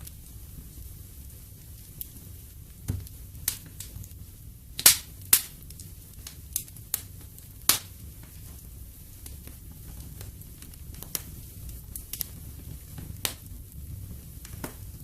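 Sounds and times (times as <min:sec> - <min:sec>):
wood fire crackling: 0:00.0 - 0:15.0
sharp fire pops: 0:02.8 - 0:15.0.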